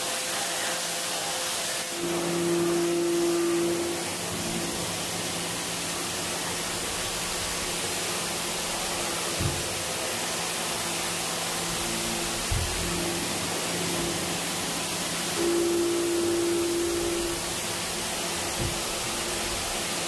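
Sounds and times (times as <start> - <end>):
pressure washer spraying water: 0.0 - 20.0
steady hum: 1.9 - 20.0.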